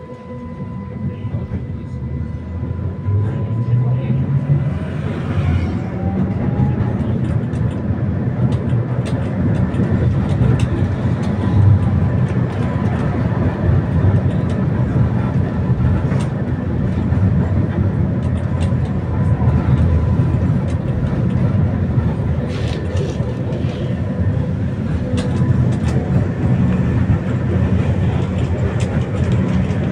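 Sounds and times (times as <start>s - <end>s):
tram rumbling: 0.0s - 29.9s.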